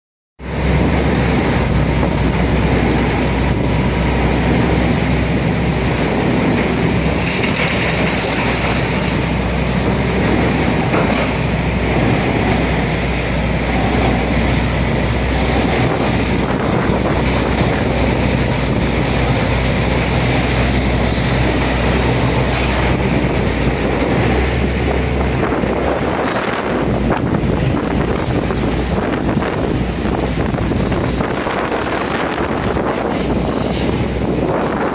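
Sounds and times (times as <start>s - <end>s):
dust extraction system running: 0.4s - 34.9s.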